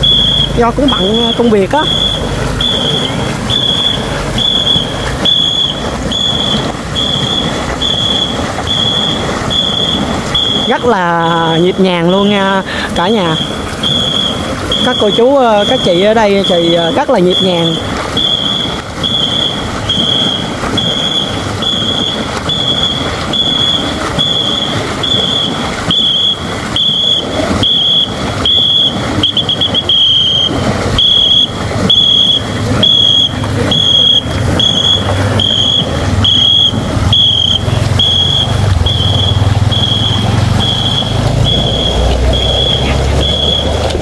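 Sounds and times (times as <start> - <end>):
paddles splashing water: 0.0 - 44.0
whistle blasts: 0.0 - 44.0.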